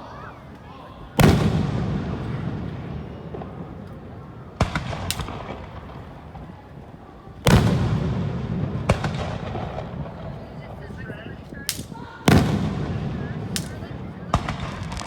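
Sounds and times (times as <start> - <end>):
fireworks booming: 1.2 - 15.0
sharp fireworks cracks: 1.2 - 15.0.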